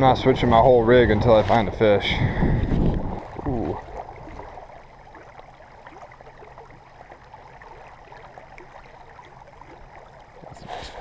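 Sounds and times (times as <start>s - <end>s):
river water flowing and gurgling: 0.0s - 11.0s
small water splashes: 0.0s - 11.0s.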